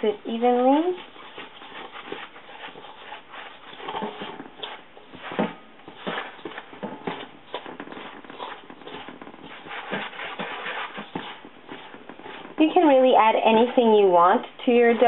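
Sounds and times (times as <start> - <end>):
dough scraping in metal bowl: 0.0 - 15.0.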